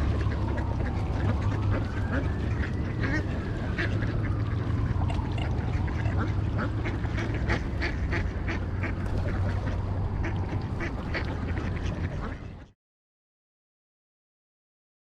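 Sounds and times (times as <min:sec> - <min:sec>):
ducks quacking: 0:00.0 - 0:12.8.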